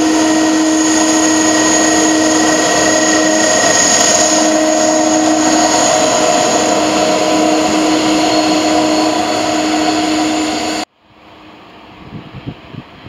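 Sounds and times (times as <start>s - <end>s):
jet engines whining: 0.0s - 10.9s
low engine rumble: 0.0s - 10.9s.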